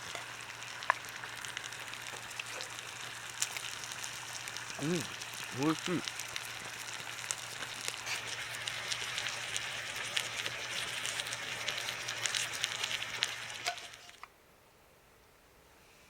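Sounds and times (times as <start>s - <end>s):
fire crackling and sizzling: 0.0s - 14.3s.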